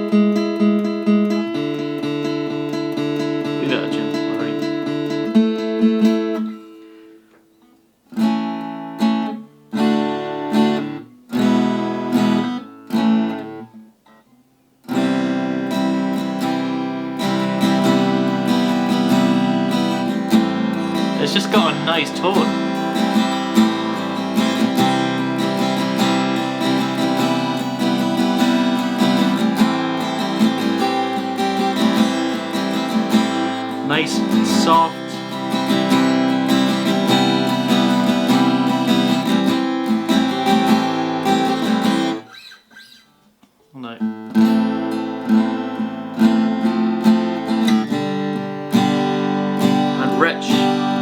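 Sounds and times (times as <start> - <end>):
acoustic guitar playing: 0.0 - 51.0.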